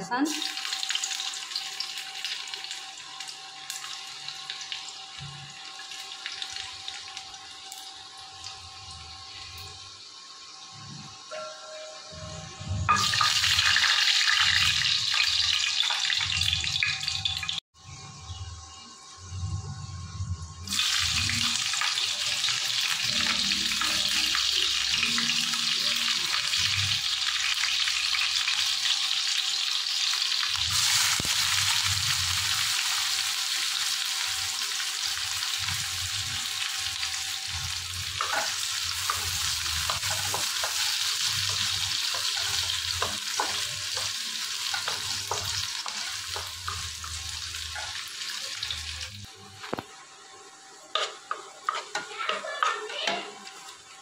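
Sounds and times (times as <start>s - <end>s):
vegetables sizzling in hot oil: 0.0s - 11.3s, 12.7s - 17.6s, 20.6s - 54.0s.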